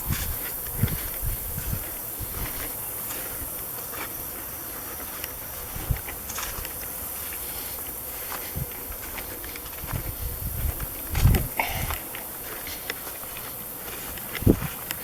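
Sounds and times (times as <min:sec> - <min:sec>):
high-pitched insect chorus: 0:00.0 - 0:15.0
light rustles and crackles: 0:00.0 - 0:15.0.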